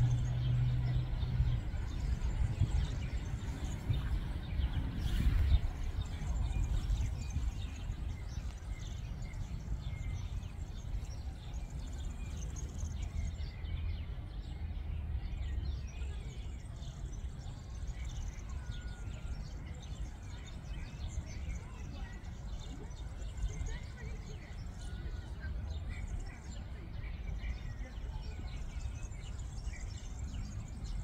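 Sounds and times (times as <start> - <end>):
low wind rumble on microphone: 0.0 - 31.0.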